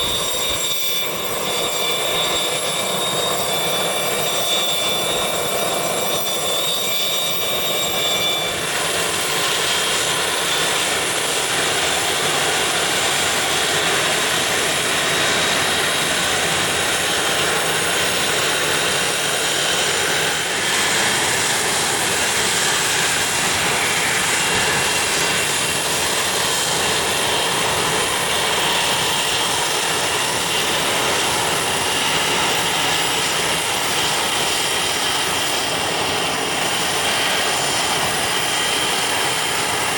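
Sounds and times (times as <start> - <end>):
high engine whine: 0.0 - 39.9
jet engines running: 0.0 - 39.9.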